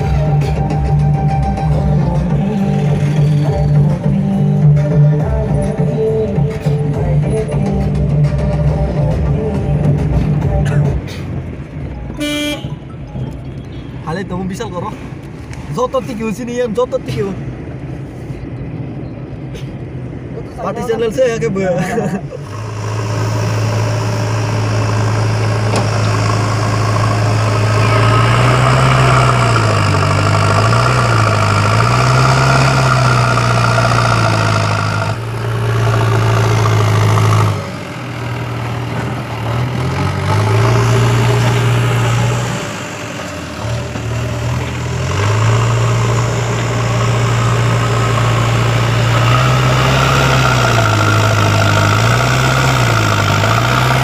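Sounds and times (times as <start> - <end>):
diesel engine running under load: 0.0 - 13.6, 21.8 - 54.0.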